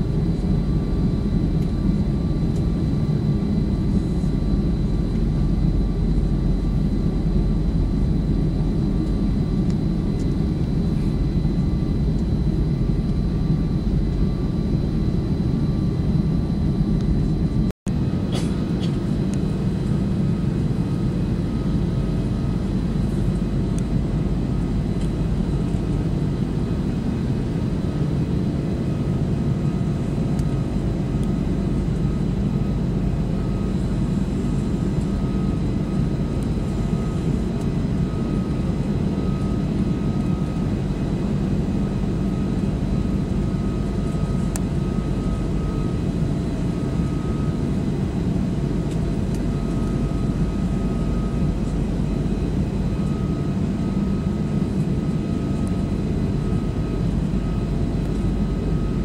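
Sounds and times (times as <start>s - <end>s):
airplane cabin engine rumble: 0.0s - 59.0s
faint high whine: 0.0s - 59.0s.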